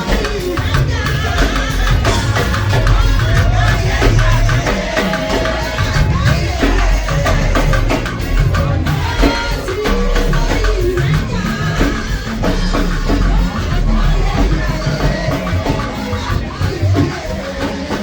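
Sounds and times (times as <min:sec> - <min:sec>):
upbeat music with drums and bass: 0:00.0 - 0:18.0.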